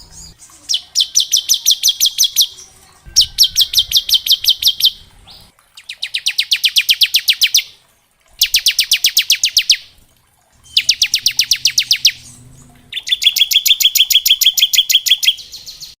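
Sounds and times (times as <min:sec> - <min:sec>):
bird singing rapid trills: 0:00.0 - 0:07.7, 0:08.4 - 0:09.9, 0:10.6 - 0:16.0.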